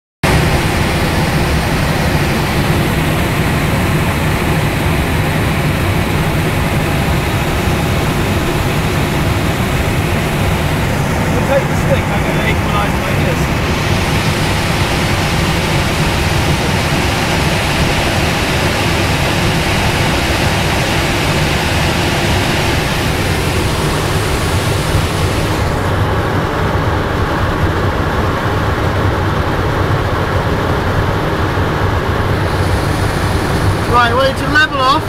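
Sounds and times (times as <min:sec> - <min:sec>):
air rushing over glider: 0:00.2 - 0:35.0.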